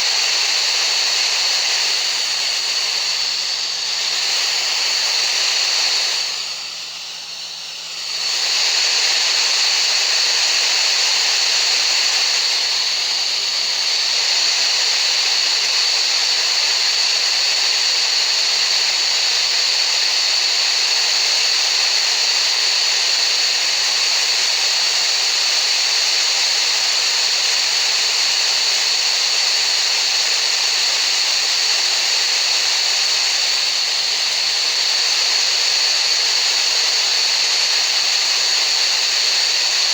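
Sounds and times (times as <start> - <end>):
steady hissing noise: 0.0 - 39.9.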